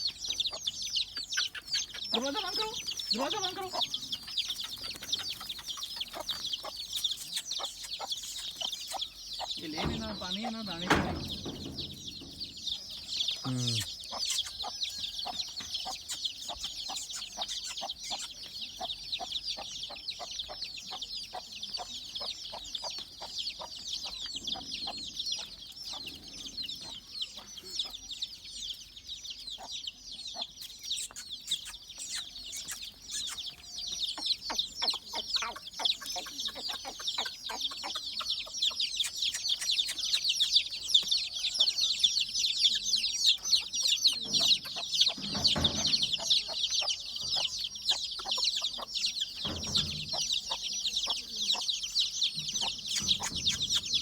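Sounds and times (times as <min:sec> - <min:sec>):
hen clucking: 0:00.0 - 0:28.4, 0:29.4 - 0:54.0
chicks peeping: 0:00.0 - 0:54.0.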